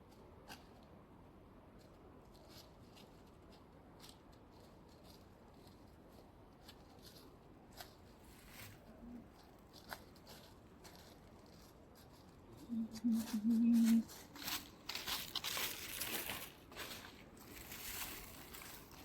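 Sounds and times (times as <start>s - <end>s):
faint clicks and rustles: 1.7s - 19.0s.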